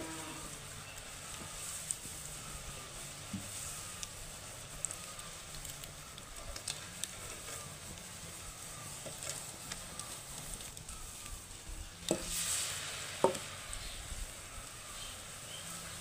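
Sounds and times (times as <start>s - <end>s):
oil sizzling with pops: 0.0s - 16.0s.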